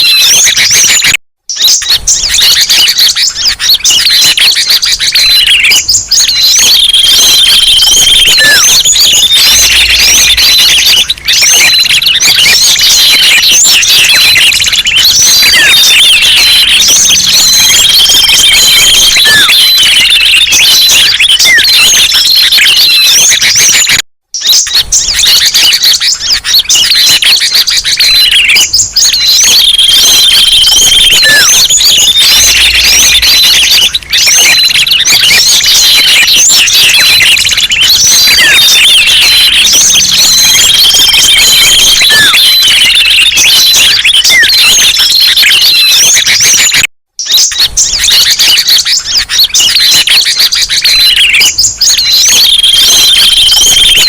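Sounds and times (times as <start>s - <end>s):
small songbirds chirping and trilling: 0.0s - 54.0s.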